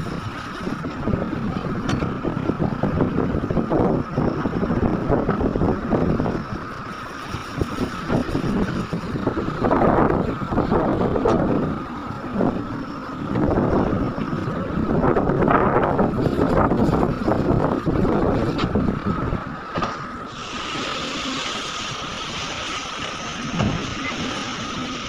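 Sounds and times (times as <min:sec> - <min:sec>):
heavy construction machinery running: 0:00.0 - 0:25.0
wind buffeting microphone: 0:00.0 - 0:25.0.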